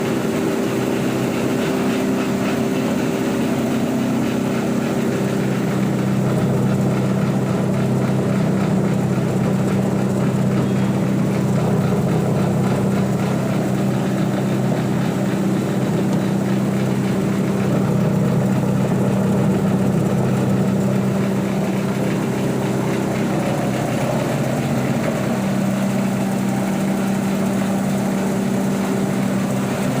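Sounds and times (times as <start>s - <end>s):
grinding machine humming: 0.0s - 30.0s.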